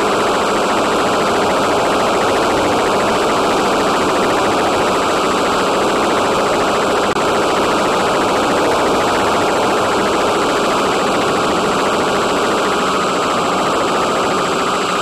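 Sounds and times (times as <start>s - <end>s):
faint high whine: 0.0s - 15.0s
fast even flutter: 0.6s - 15.0s
loud hissing noise: 1.3s - 15.0s.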